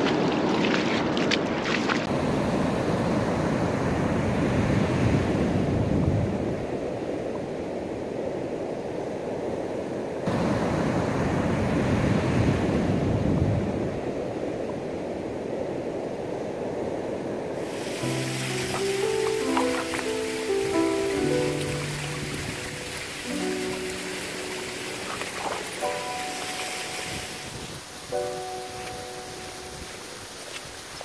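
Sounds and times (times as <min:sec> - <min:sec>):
ocean surf washing: 0:00.0 - 0:31.0
wind buffeting microphone: 0:00.0 - 0:31.0.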